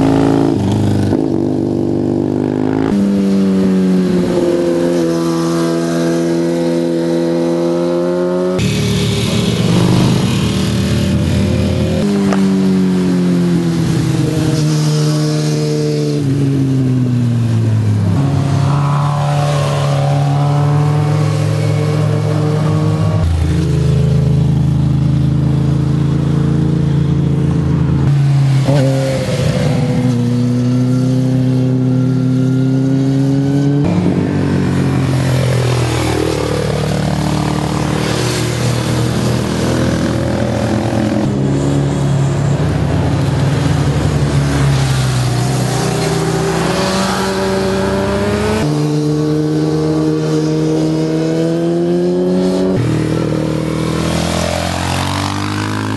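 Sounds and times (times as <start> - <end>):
motorcycles riding past: 0.0 - 55.9.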